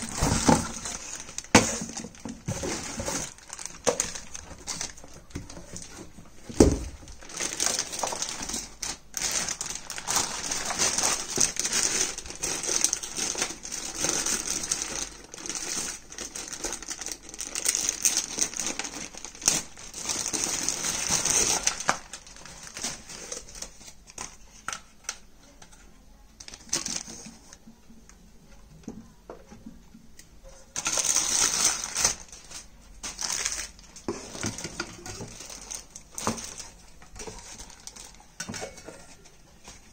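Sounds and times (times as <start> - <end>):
plastic bags crinkling: 0.0 - 25.2, 26.4 - 27.6, 30.7 - 39.9.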